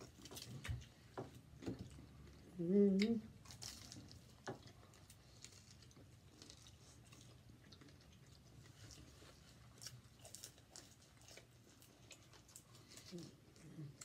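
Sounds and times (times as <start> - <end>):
chewing and crunching: 0.0 - 14.0
low steady hum: 0.0 - 14.0.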